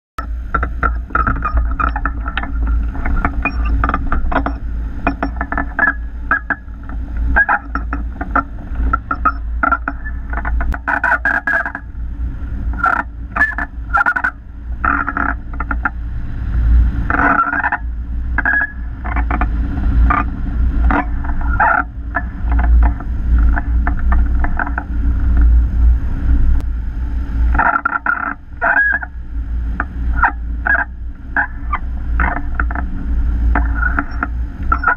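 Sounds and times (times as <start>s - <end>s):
wind buffeting microphone: 0.2s - 34.9s.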